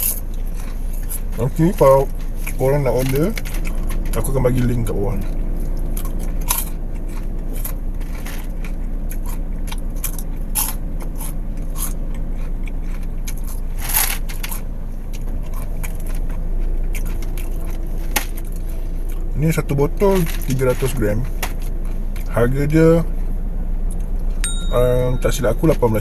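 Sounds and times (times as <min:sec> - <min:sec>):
popcorn crunching and chewing: 0:00.0 - 0:24.3
steady low hum: 0:00.0 - 0:26.0.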